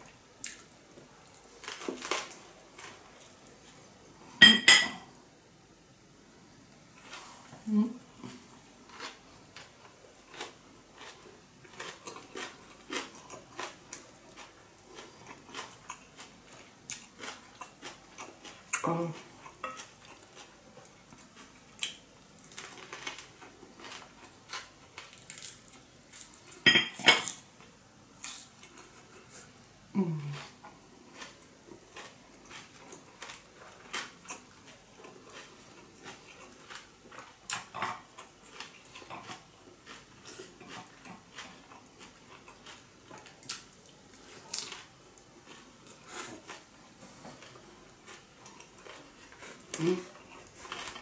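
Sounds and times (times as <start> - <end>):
person chewing: 0.4 - 4.4, 8.2 - 26.6, 28.2 - 51.0.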